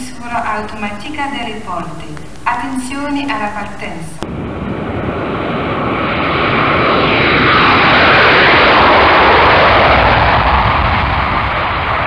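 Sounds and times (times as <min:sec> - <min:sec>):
jet engine roar on takeoff: 0:00.0 - 0:12.0.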